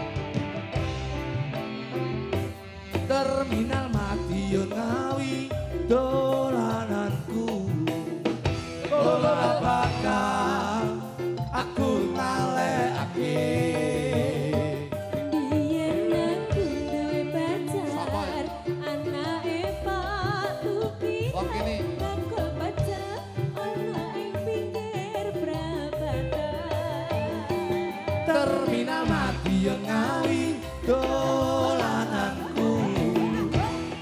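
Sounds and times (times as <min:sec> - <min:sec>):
band playing with deep drum beats: 0:00.0 - 0:34.0
man and woman singing: 0:03.0 - 0:34.0.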